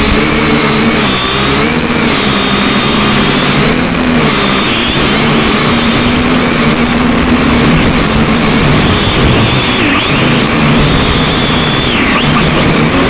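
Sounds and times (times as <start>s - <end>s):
quadcopter propellers whining: 0.0s - 13.0s.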